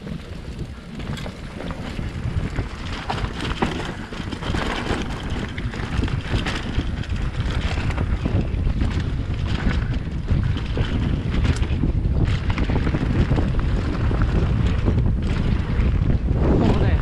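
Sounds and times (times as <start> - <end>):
bike knocks and rattles: 0.0 - 17.0
tyres rumbling on dirt: 0.0 - 17.0
wind noise on microphone: 0.0 - 17.0.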